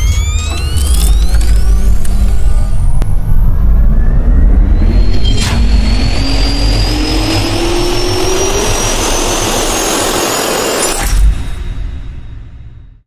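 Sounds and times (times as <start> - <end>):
jet turbine spooling up: 0.0 - 11.5.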